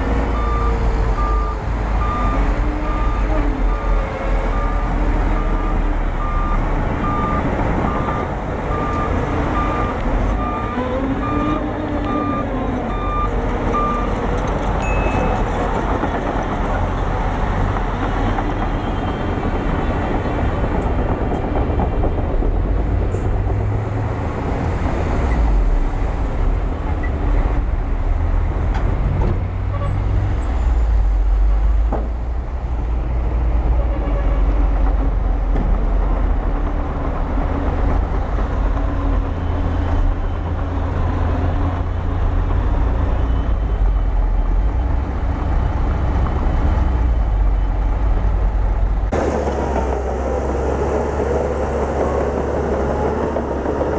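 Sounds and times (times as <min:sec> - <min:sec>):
diesel engine rumbling under load: 0:00.0 - 0:53.9.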